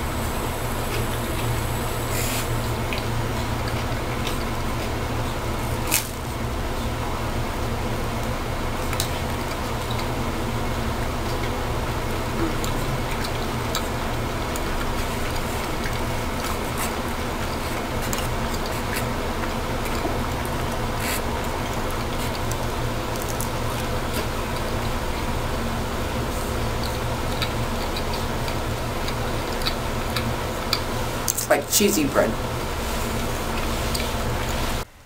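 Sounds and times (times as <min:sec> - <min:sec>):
low hum and hiss: 0:00.0 - 0:35.0
chewing pizza: 0:00.4 - 0:34.9.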